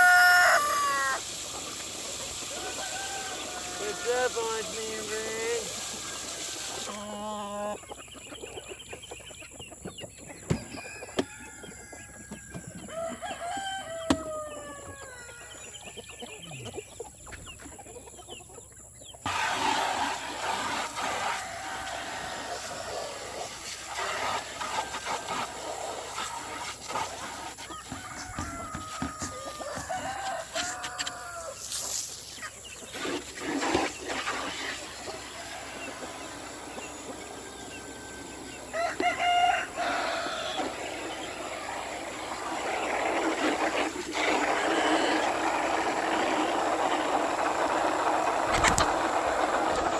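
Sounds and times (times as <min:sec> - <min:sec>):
roosters crowing: 0:00.0 - 0:08.0, 0:10.4 - 0:16.4, 0:19.3 - 0:33.7, 0:34.3 - 0:49.9
chickens clucking: 0:00.0 - 0:49.9.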